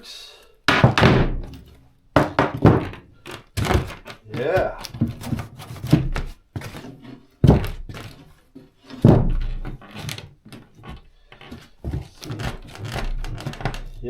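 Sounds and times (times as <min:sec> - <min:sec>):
heavy thuds: 0:00.7 - 0:08.3, 0:08.9 - 0:14.0
dull thunks and knocks: 0:00.7 - 0:14.0.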